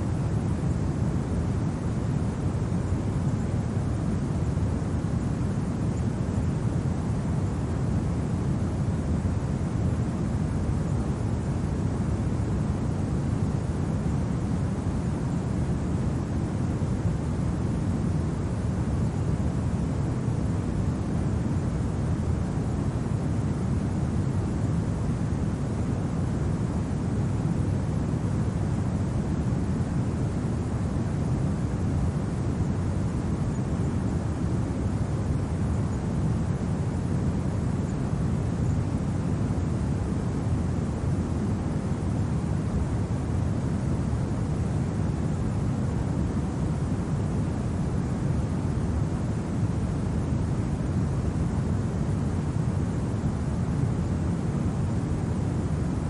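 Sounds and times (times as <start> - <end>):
low wind noise: 0.0 - 56.0.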